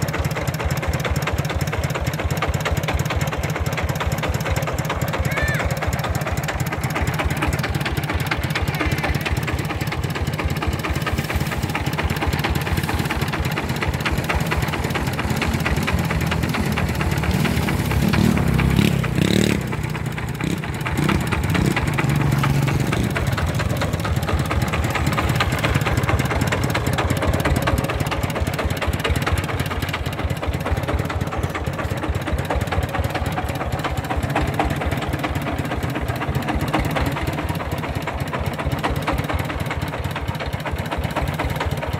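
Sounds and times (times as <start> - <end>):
diesel engine thumping: 0.0 - 41.9.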